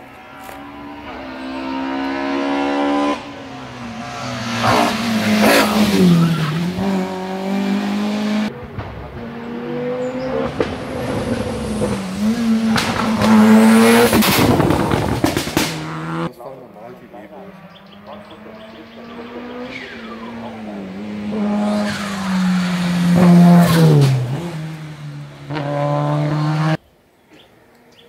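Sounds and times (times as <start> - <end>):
race car engine accelerating: 0.2 - 16.3, 17.2 - 26.8.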